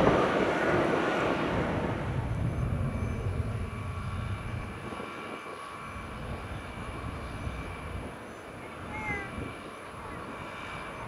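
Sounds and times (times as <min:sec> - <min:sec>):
jet engines passing: 0:00.0 - 0:11.0.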